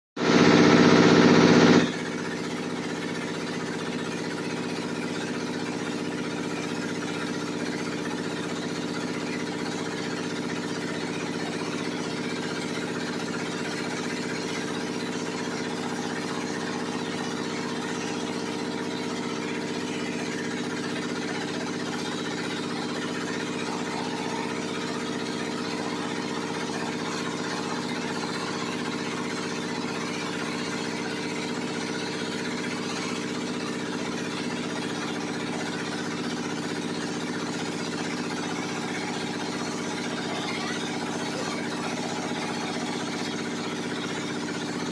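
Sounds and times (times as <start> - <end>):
machine mechanical hum: 0.2 - 44.9.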